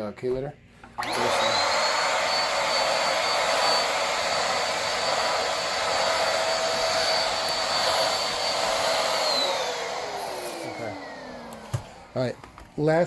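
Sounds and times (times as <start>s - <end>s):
vacuum cleaner whining: 0.9s - 12.9s.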